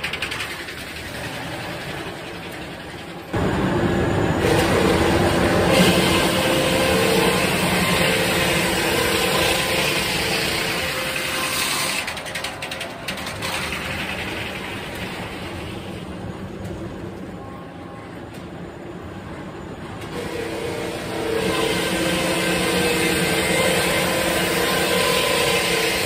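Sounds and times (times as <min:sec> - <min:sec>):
circular saw machine hum: 0:00.9 - 0:17.2, 0:18.8 - 0:26.0.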